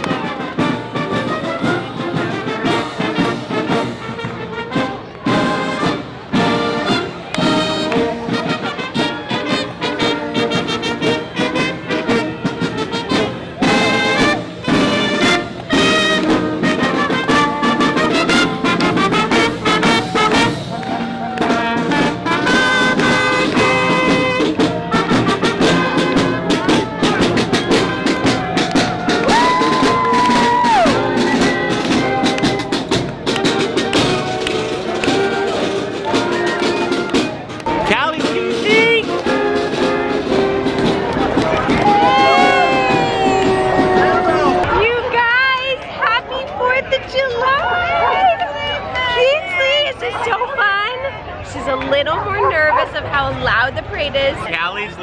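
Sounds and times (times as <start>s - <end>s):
brass band music: 0.0s - 45.6s
drums: 0.0s - 46.1s.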